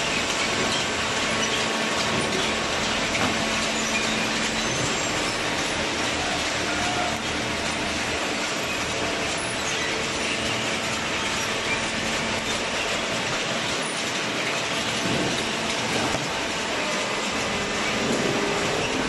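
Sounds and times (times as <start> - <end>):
conveyor and baler clattering: 0.0 - 19.0
faint machine hum: 0.0 - 19.0.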